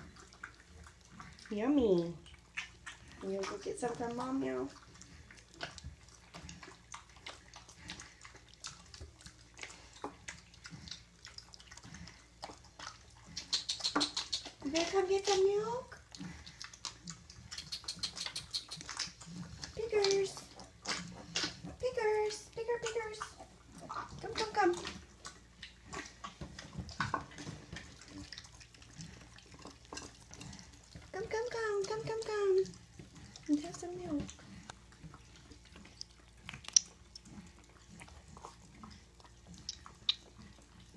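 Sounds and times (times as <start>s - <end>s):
piglets suckling wet smacking: 0.0s - 40.9s.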